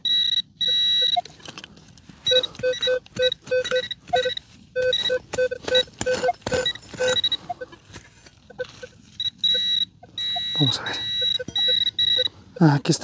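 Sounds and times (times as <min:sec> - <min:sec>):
metal detector beeping: 0:00.0 - 0:01.5, 0:02.2 - 0:13.0.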